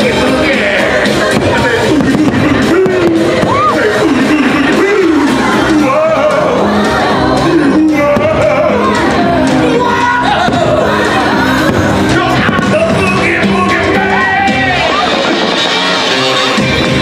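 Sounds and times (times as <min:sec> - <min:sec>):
loud music with sung melody: 0:00.0 - 0:17.0.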